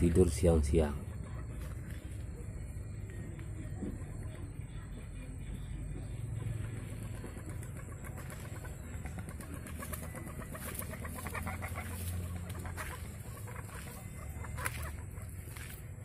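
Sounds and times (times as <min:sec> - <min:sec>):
poultry clucking: 0:00.1 - 0:16.0.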